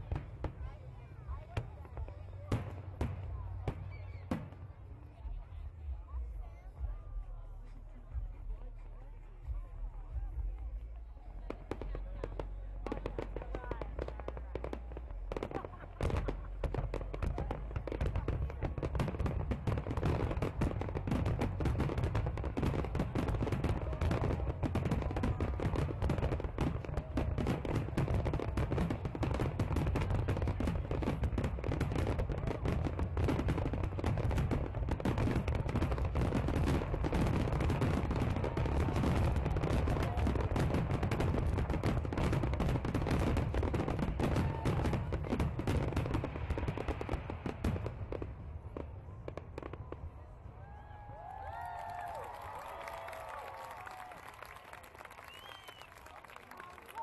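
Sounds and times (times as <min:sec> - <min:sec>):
fireworks bursting and crackling: 0:00.0 - 0:50.8, 0:51.5 - 0:57.0.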